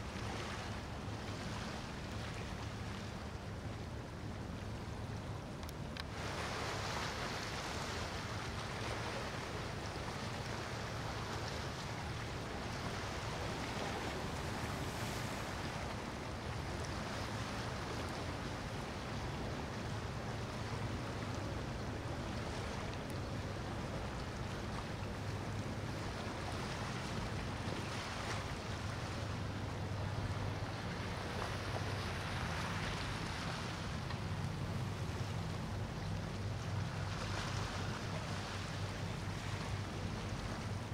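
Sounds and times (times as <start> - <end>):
boat engines droning: 0.0 - 40.9
bow wave and wake rushing: 0.0 - 40.9.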